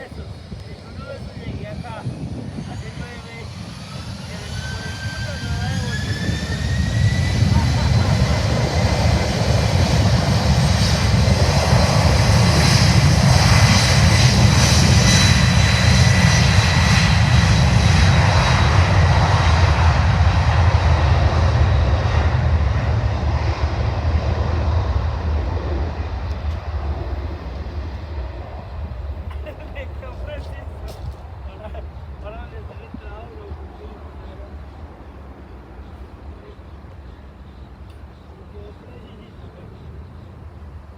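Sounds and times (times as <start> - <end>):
jet engines roaring with high whine: 0.0 - 40.9.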